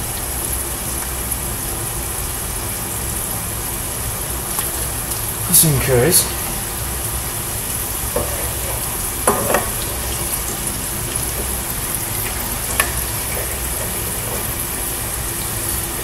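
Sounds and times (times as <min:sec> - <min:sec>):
fries sizzling in oil: 0:00.0 - 0:16.0.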